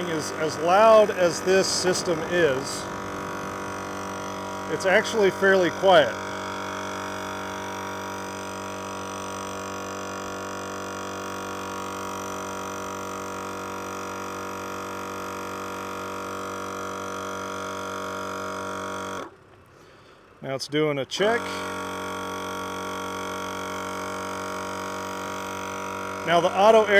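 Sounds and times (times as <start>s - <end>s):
air compressor running: 0.0s - 20.4s, 21.1s - 26.9s.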